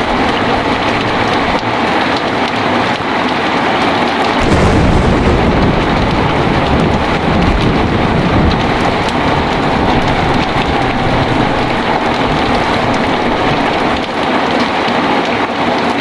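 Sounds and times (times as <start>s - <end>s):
thunder rumbling: 0.0s - 15.1s
heavy rain: 0.0s - 16.0s.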